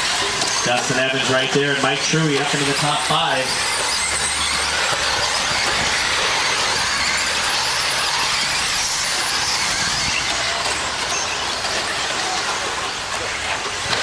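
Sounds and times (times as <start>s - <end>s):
electric motors high-pitched whine: 0.0s - 14.0s.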